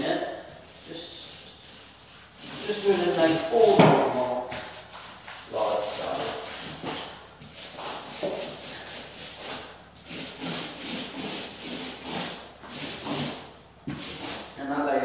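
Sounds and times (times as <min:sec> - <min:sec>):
paint brush swishing on wall: 0:00.0 - 0:14.6.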